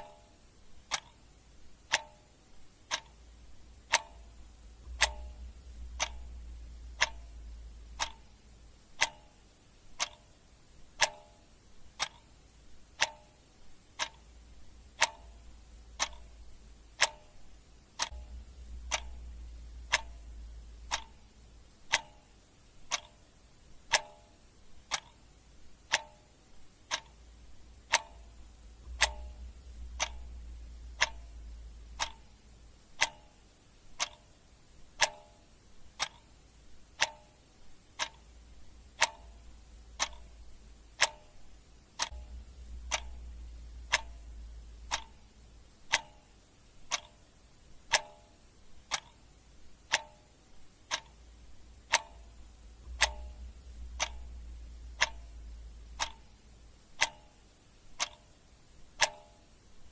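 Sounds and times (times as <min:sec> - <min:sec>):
clock ticking: 0:00.0 - 0:59.9
faint low hum: 0:00.0 - 0:59.9.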